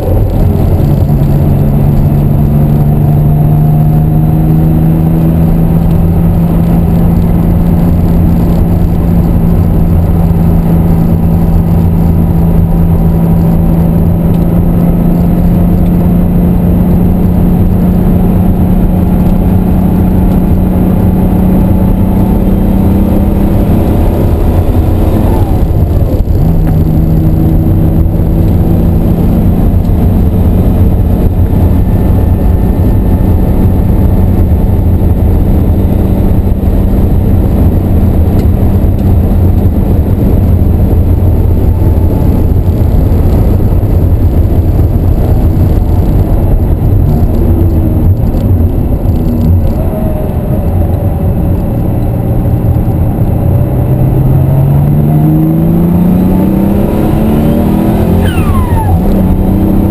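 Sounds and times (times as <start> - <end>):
car engine pulling hard: 0.0 - 59.9
constant low rumble: 0.0 - 59.9.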